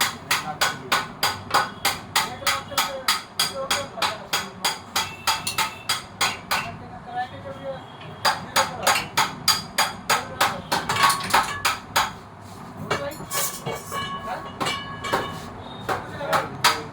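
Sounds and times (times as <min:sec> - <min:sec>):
hammer striking metal: 0:00.0 - 0:06.8, 0:08.2 - 0:12.2, 0:13.3 - 0:16.9.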